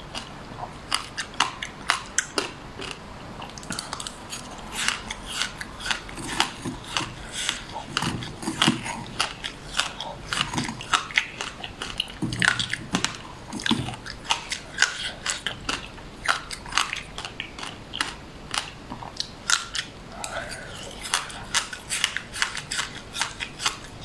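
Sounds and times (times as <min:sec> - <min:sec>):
crunchy food being chewed: 0:00.0 - 0:24.0.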